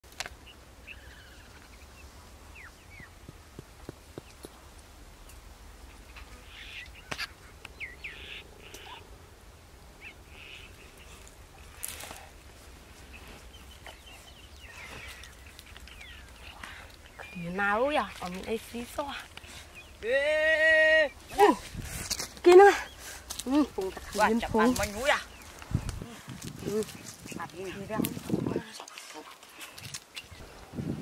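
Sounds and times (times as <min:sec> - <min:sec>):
birds chirping: 0:00.2 - 0:30.7.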